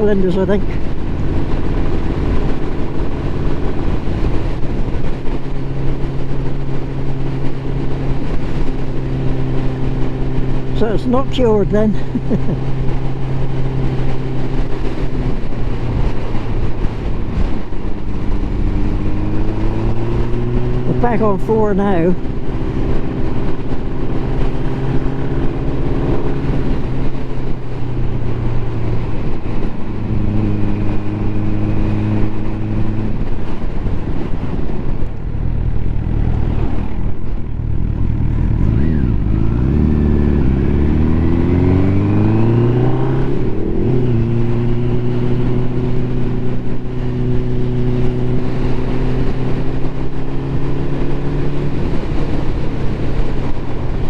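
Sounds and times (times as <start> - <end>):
motorcycle engine: 0.0 - 54.0
wind rush: 0.0 - 54.0.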